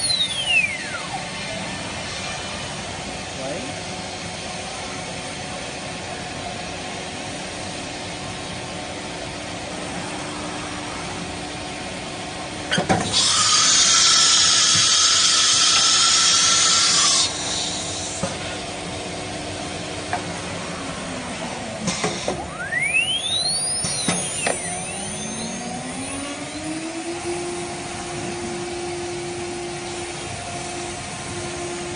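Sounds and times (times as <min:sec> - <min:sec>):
cnc router mechanical hum: 0:00.0 - 0:31.9.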